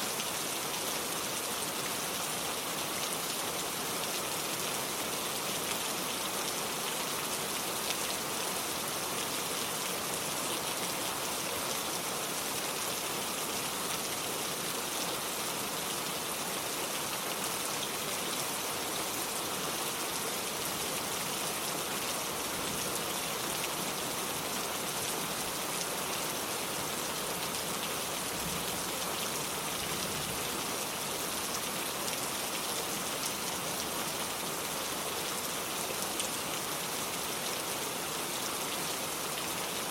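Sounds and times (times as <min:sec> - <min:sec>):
rain on porch and lake: 0:00.0 - 0:39.9.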